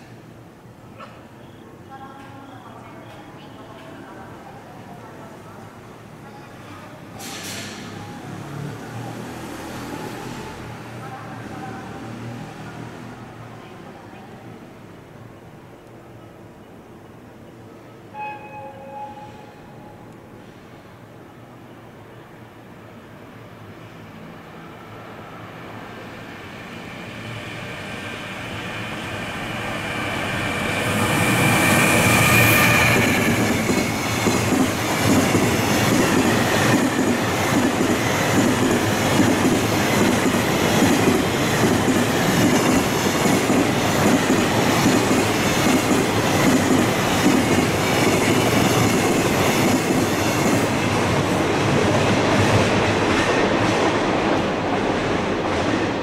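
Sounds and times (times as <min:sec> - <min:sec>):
electric locomotive passing: 0:01.6 - 0:56.0.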